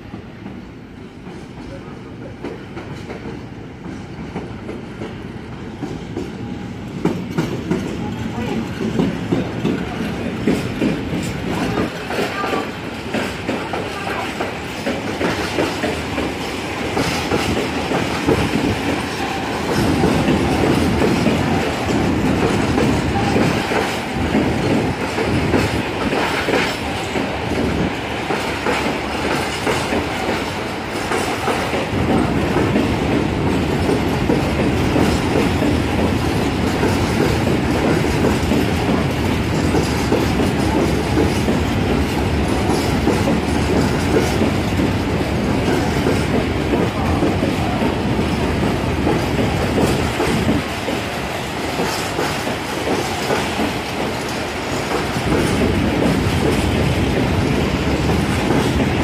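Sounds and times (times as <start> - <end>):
wheels clacking over rail joints: 5.8 - 59.0.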